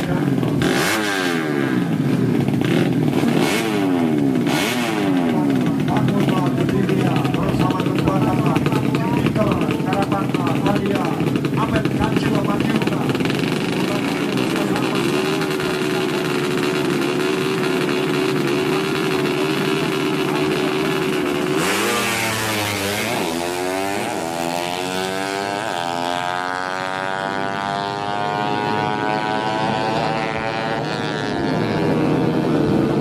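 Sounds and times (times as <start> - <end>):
motorcycles revving and accelerating: 0.0 - 33.0.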